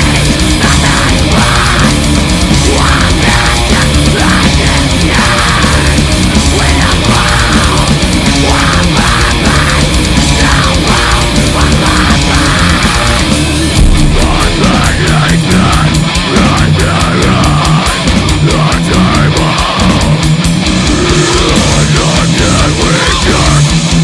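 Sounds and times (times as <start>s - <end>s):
heavy metal song: 0.0s - 24.0s.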